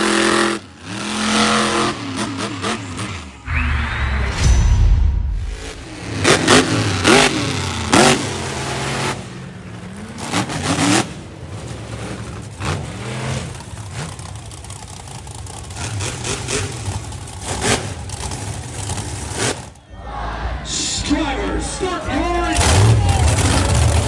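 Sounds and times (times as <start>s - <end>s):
truck engine revving: 0.0s - 19.8s, 22.4s - 24.0s.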